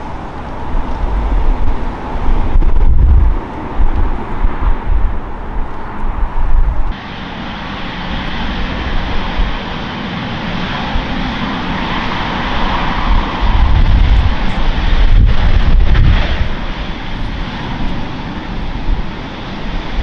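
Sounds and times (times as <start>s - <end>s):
jet engines whining: 0.0s - 20.0s
wind buffeting microphone: 0.0s - 20.0s.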